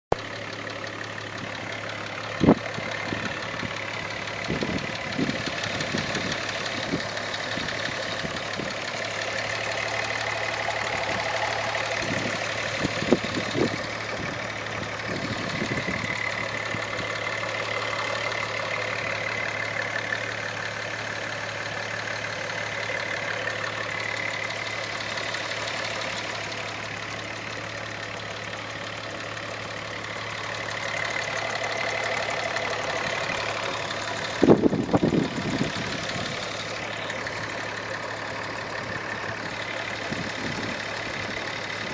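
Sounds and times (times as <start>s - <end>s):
car engine running: 0.1s - 41.9s
engine ticking: 0.1s - 41.9s.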